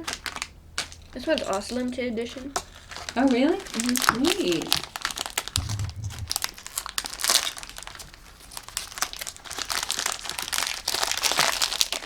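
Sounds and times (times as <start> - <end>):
plastic packaging crinkling: 0.0 - 5.8, 7.1 - 12.0.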